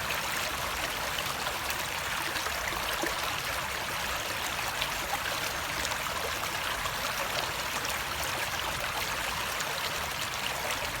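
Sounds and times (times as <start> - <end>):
water splashes and trickles: 0.0 - 11.0.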